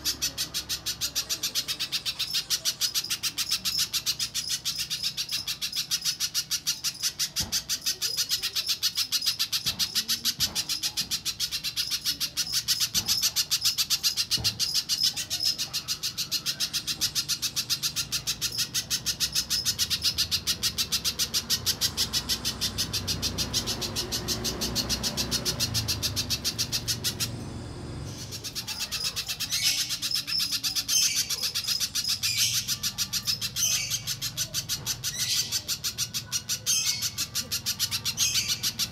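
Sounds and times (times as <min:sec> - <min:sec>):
bird calling in sharp chips: 0:00.0 - 0:38.9.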